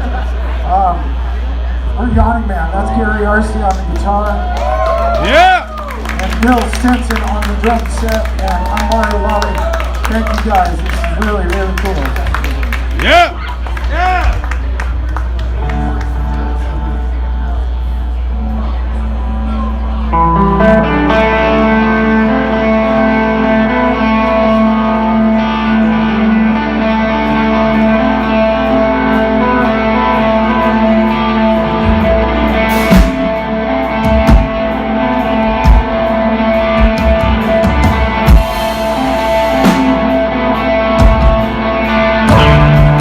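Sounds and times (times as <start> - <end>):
bass guitar: 0.0 - 43.0
electric guitar: 0.0 - 43.0.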